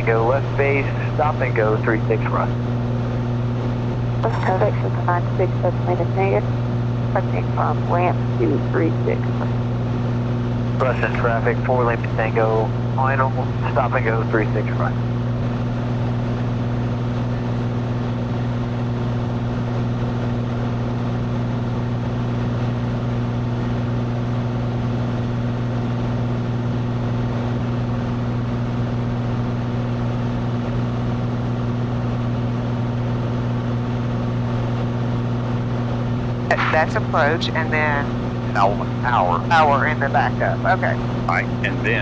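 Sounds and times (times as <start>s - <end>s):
propeller plane engine droning: 0.0s - 42.0s.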